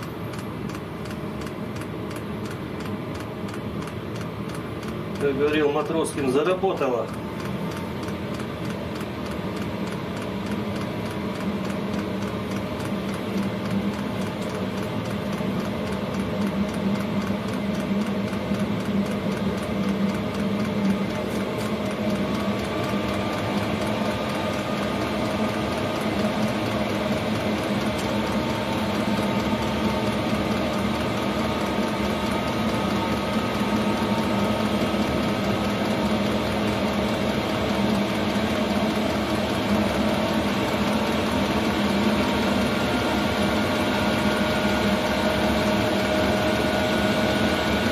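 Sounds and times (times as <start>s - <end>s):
diesel air heater whirring: 0.0s - 47.9s
rapid mechanical rattle: 0.0s - 47.9s.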